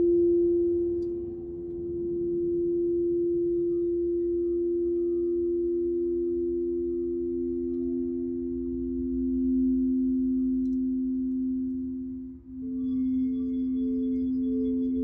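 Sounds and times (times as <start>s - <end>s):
higher pulsing singing bowl: 0.0s - 15.0s
low singing bowl tones: 0.0s - 15.0s.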